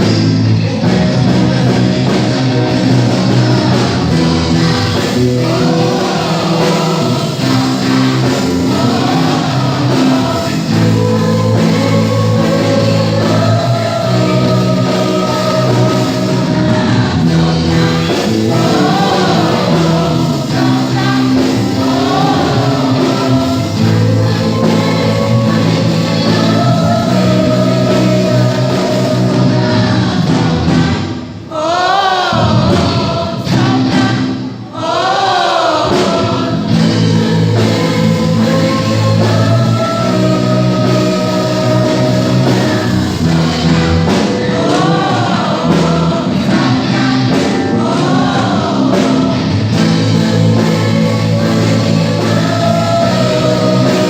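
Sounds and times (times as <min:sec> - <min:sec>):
low bass notes: 0:00.0 - 0:31.2, 0:36.1 - 0:54.0
choir singing: 0:00.0 - 0:54.0.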